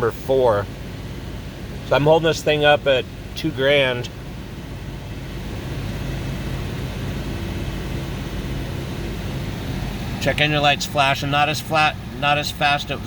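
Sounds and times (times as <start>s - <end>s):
misfiring car engine running: 0.0s - 13.0s.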